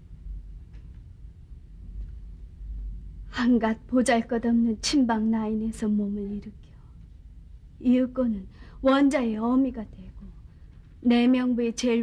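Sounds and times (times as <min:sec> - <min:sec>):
low rumbling hum with hiss: 0:00.0 - 0:12.0.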